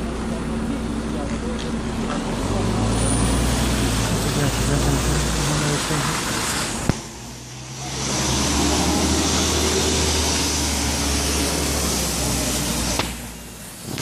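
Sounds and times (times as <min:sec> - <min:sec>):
bus engine drone: 0:00.0 - 0:14.0
tyre hiss on wet road: 0:02.6 - 0:14.0.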